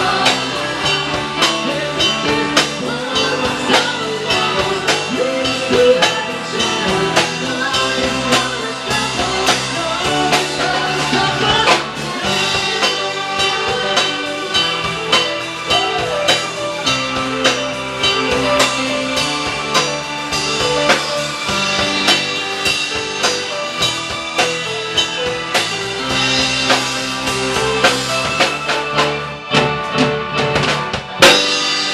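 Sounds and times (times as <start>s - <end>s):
drum kit steady beat: 0.0s - 31.9s
live band playing: 0.0s - 31.9s.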